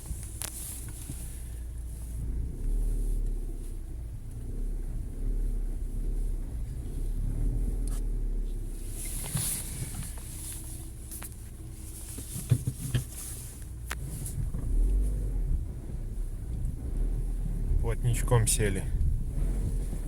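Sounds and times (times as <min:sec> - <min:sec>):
car engine running at low speed: 0:00.0 - 0:20.0.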